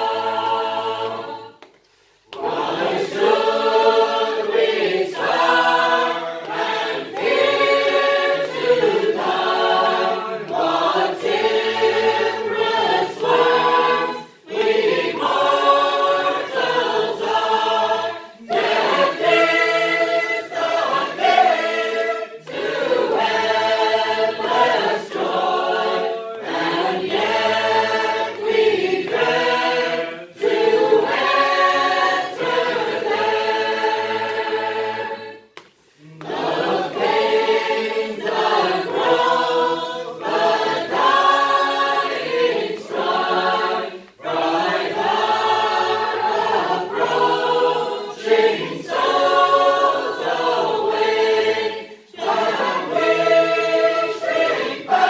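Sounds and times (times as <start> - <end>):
group singing a hymn a cappella: 0.0 - 55.0.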